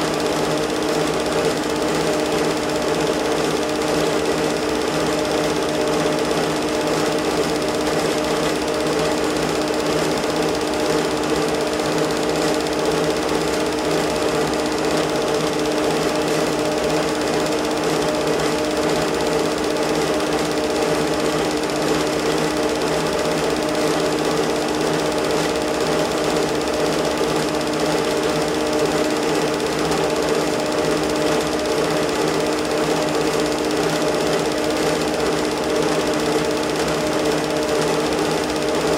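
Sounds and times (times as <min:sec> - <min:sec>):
film projector clatter: 0:00.0 - 0:38.9.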